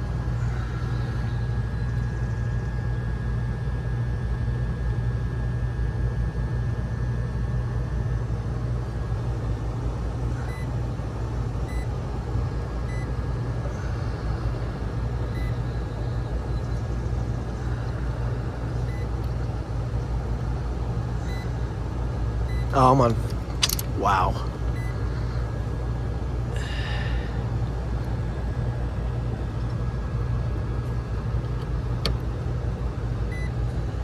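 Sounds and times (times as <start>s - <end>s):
hvac unit humming: 0.0s - 34.0s.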